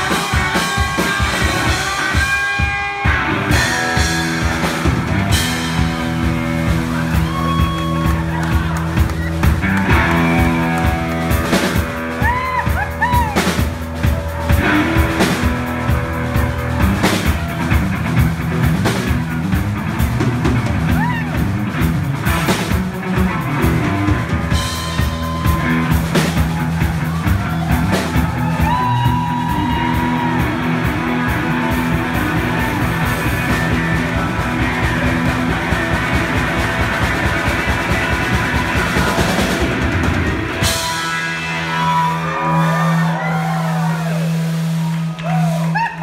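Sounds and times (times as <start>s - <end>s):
drum kit: 0.0s - 46.0s
electric guitar: 0.0s - 46.0s.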